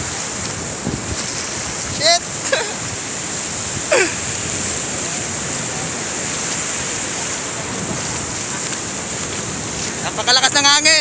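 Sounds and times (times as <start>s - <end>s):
wind on microphone: 0.0s - 10.3s
surf breaking on sand: 0.0s - 11.0s.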